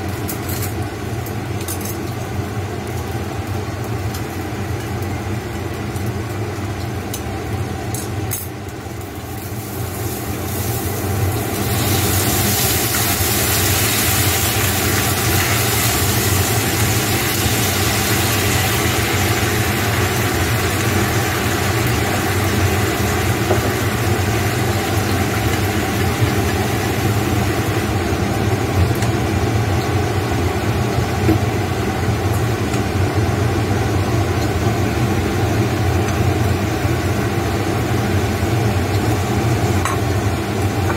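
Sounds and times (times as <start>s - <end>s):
continuous low hum: 0.0s - 40.9s
sauce sizzling in a frying pan: 0.0s - 40.9s.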